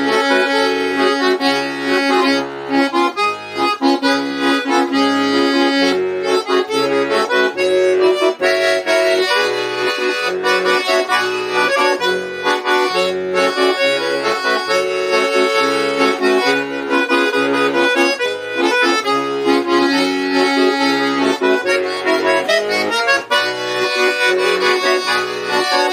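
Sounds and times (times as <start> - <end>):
accordion playing slow melody: 0.0 - 25.9.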